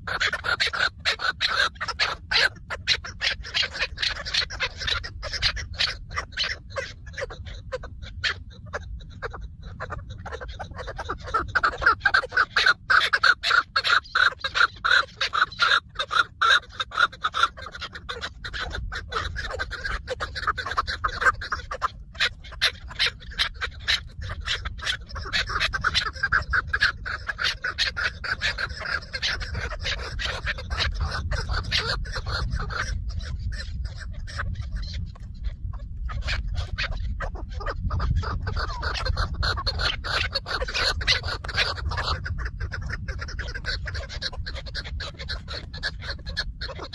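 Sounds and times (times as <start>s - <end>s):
partridge clucking calls: 0.0s - 46.9s.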